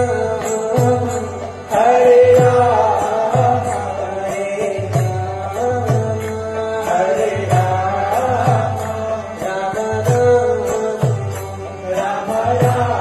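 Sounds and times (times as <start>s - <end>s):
chanted devotional singing: 0.0s - 13.0s
steady percussive beat: 0.0s - 13.0s.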